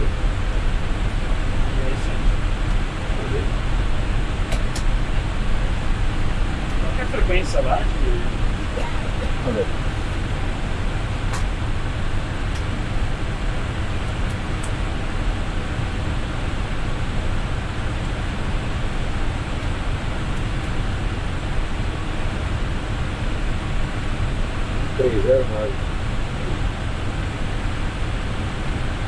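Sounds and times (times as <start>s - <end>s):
cockpit airflow and air-conditioning hiss: 0.0s - 29.0s.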